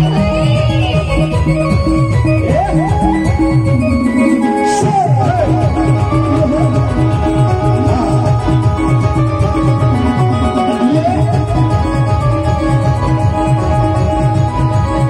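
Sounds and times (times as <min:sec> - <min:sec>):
instrumental band music: 0:00.0 - 0:15.0.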